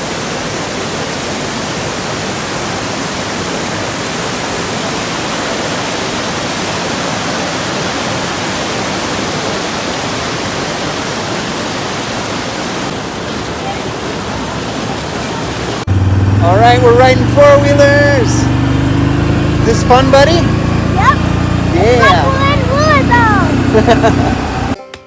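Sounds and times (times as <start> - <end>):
water rushing roar: 0.0 - 24.8.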